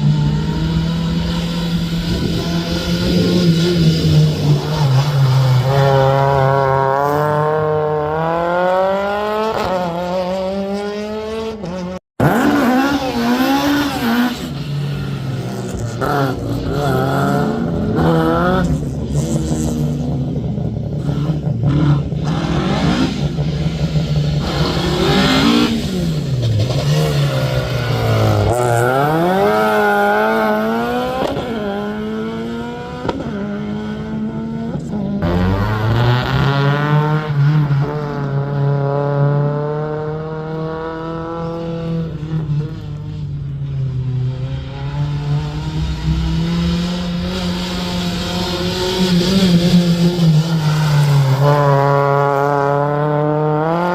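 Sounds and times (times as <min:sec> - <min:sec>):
rally car engine accelerating: 0:00.0 - 0:53.9.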